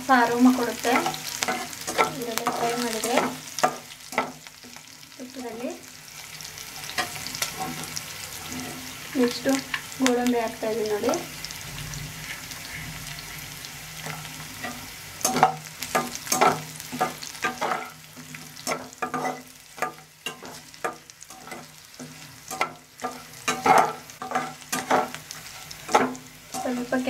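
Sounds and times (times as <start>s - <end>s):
food sizzling in ghee: 0.0s - 27.0s
spatula scraping a pan: 0.5s - 4.8s, 6.2s - 9.0s, 12.2s - 27.0s.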